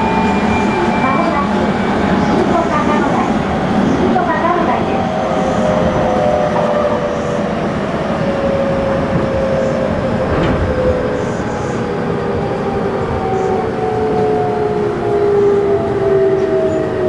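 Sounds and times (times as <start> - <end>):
train inverter whining: 0.0 - 17.0
train wheels rumbling on rails: 0.0 - 17.0.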